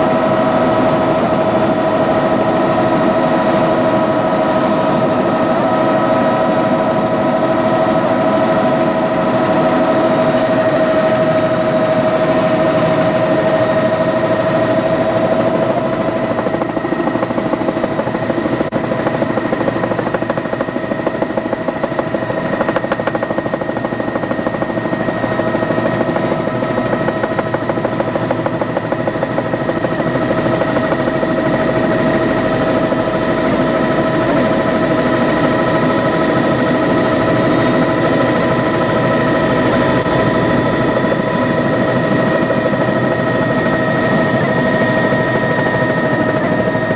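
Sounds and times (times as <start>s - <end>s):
helicopter rotor chopping: 0.0s - 46.9s
helicopter turbine whine: 0.0s - 46.9s.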